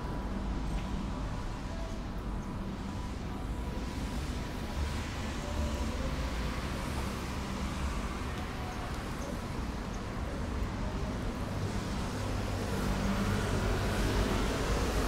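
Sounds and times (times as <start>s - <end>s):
constant traffic hiss: 0.0s - 15.0s
passing vehicles rumbling: 2.6s - 15.0s.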